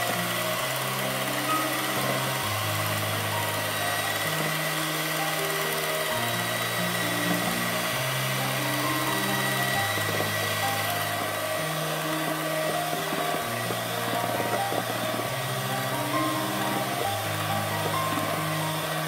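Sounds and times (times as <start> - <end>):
background music with held notes: 0.0 - 19.0
electric hand mixer whining: 0.0 - 19.0.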